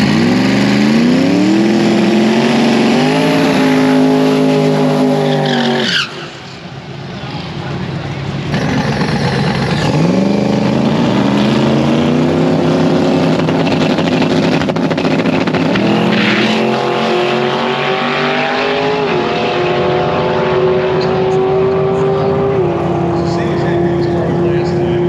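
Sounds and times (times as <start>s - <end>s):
race car engine accelerating: 0.0s - 6.1s, 8.4s - 25.0s.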